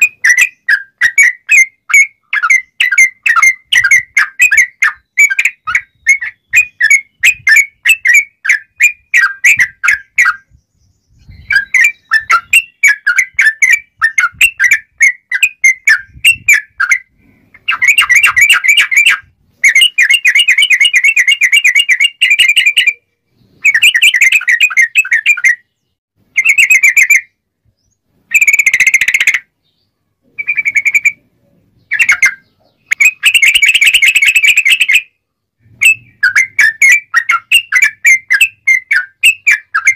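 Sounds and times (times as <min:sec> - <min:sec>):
bulbul singing chattering trills: 0:00.0 - 0:39.9.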